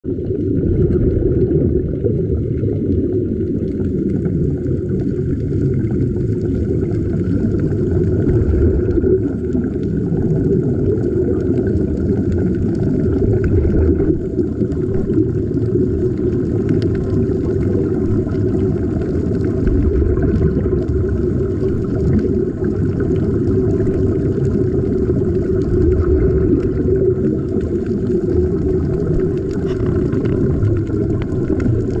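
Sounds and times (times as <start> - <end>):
air bubbling: 0.0 - 32.0
underwater rumble: 0.0 - 32.0.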